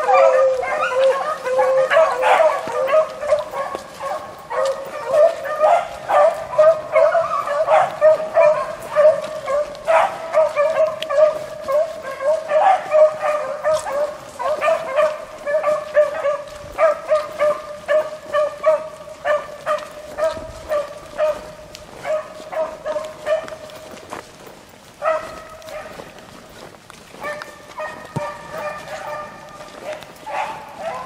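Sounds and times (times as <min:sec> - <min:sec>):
hounds baying: 0:00.0 - 0:31.0.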